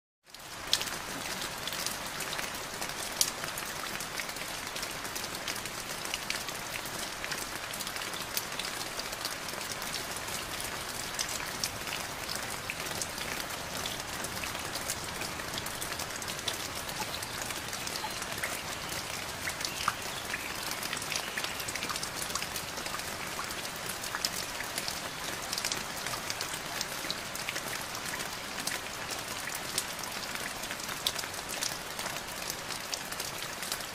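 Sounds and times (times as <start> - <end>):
raindrops ticking close by: 0.2 - 33.9
steady rain: 0.2 - 33.9.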